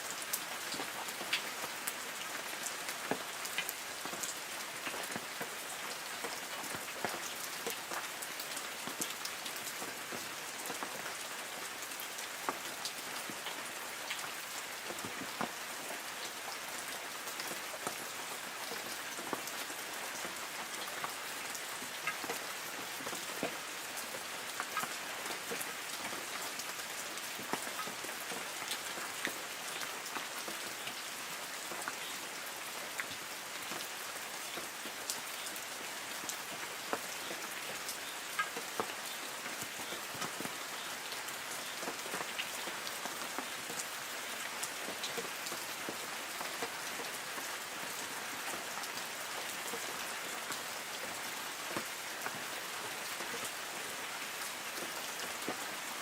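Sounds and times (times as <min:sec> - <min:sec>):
light rain on trees: 0:00.0 - 0:56.0
raindrops ticking on leaves: 0:00.0 - 0:56.0.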